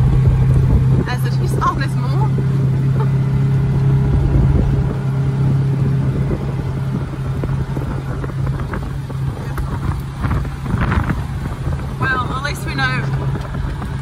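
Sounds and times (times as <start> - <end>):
vehicle engine droning: 0.0 - 14.0
vehicle rattling over dirt: 0.0 - 14.0.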